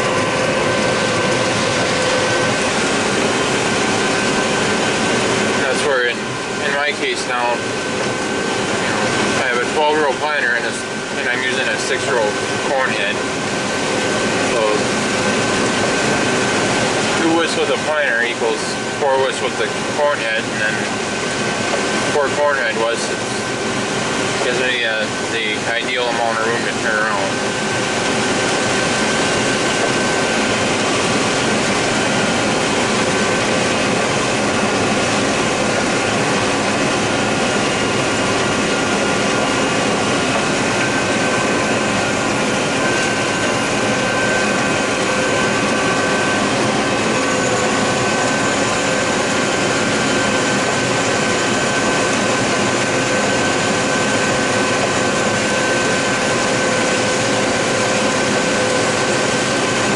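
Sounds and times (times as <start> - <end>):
combine harvester cab drone: 0.0 - 59.9
steady whining tones: 0.0 - 59.9.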